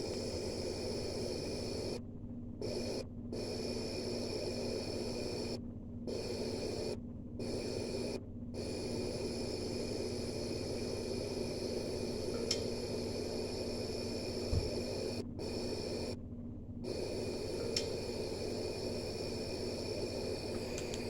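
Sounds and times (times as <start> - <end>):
steady hiss and hum: 0.0 - 2.0, 2.6 - 16.2, 16.8 - 21.0.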